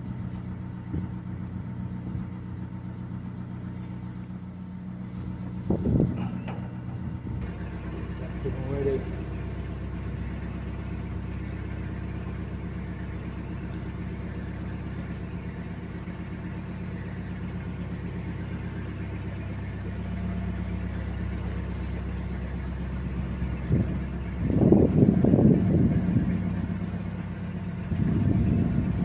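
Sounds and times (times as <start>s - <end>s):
diesel boat engine running: 0.0s - 29.0s.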